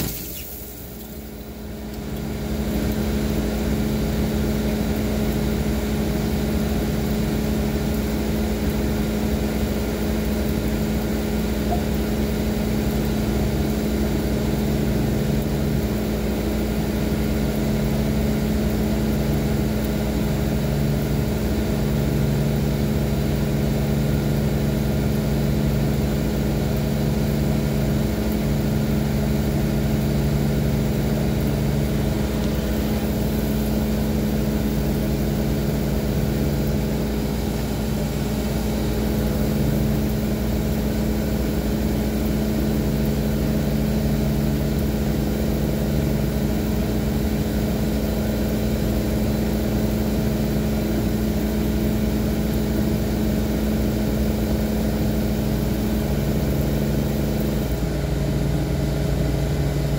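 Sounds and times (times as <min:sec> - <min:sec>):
pump motor hum: 0:00.0 - 0:59.9
water spraying in tub: 0:00.0 - 0:59.9.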